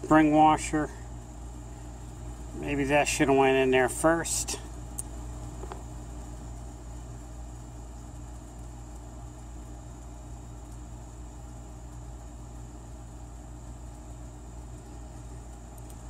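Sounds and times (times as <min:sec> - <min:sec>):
faint high whine: 0:00.0 - 0:16.0
low mechanical hum: 0:00.0 - 0:16.0.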